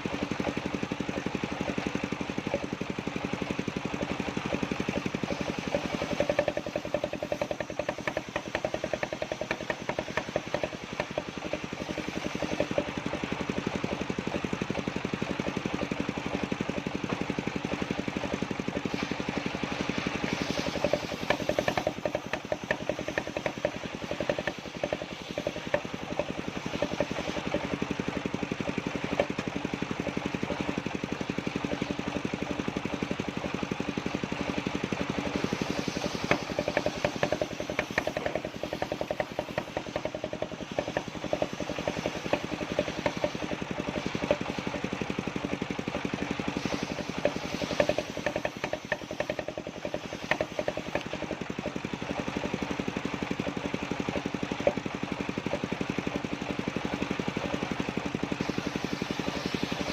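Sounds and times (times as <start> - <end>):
circular sawmill running: 0.0 - 59.9.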